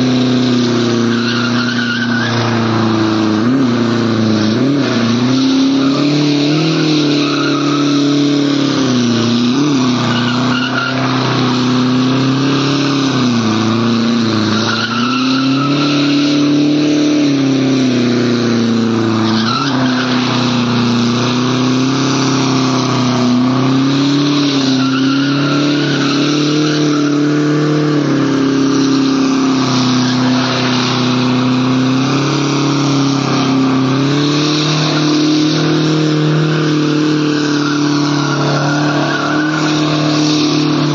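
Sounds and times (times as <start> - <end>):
car engine revving high: 0.0 - 40.9
tyres squealing: 0.2 - 40.9.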